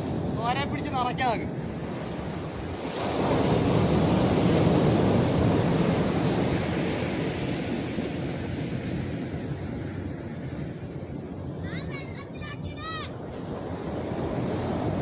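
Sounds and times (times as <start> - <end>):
sea surf washing in: 0.0 - 15.0
wind on microphone: 0.0 - 15.0.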